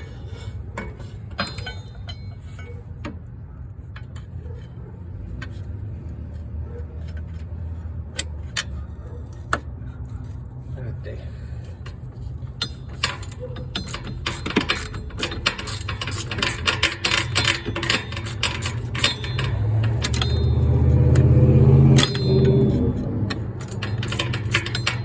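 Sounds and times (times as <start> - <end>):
hand tools clicking and clinking: 0.0 - 10.7, 11.4 - 25.0.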